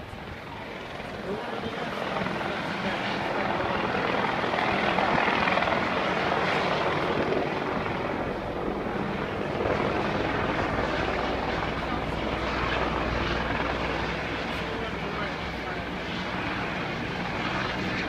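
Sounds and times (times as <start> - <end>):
constant rushing noise: 0.0 - 18.0.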